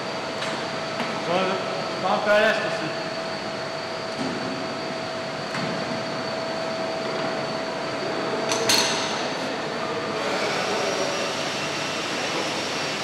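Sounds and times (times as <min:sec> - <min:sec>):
steady whining tones: 0:00.0 - 0:13.0
ventilation hum: 0:00.0 - 0:13.0.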